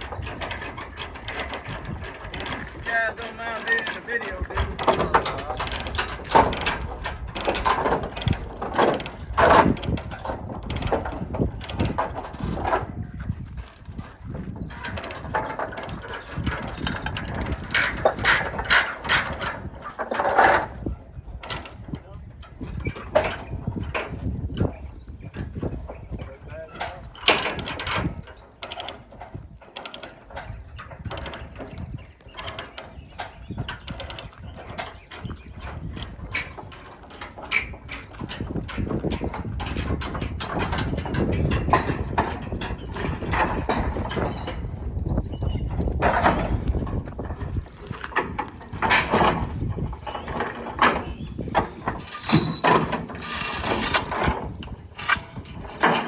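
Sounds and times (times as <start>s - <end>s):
metallic clanking and ratcheting: 0.0s - 56.0s.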